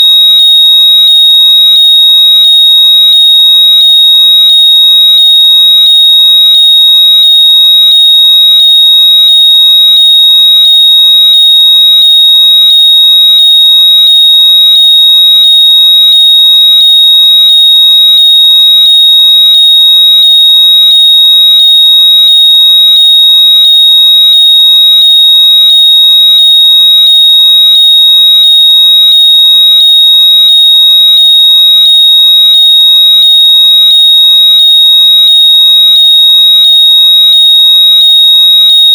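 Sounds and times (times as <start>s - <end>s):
high-pitched electronic tone: 0.0s - 38.9s.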